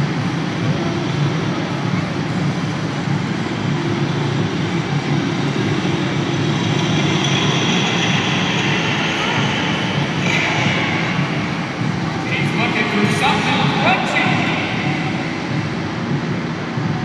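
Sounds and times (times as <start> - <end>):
machine mechanical rumble: 0.0 - 17.0.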